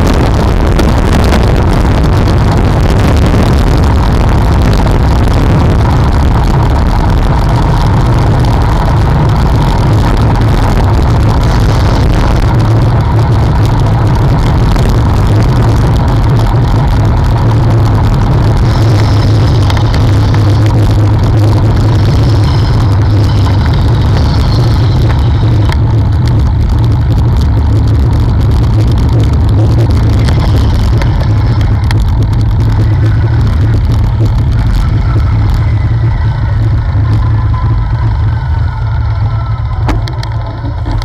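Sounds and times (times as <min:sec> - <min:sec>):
bicycle tyre road noise: 0:00.0 - 0:41.0
wind rumble on microphone: 0:00.0 - 0:41.0.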